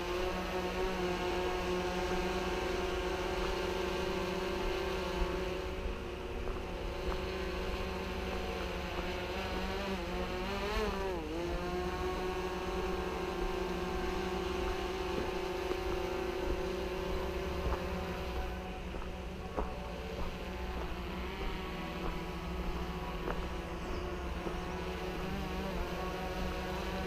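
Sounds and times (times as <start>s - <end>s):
drone propellers whining: 0.0s - 27.0s.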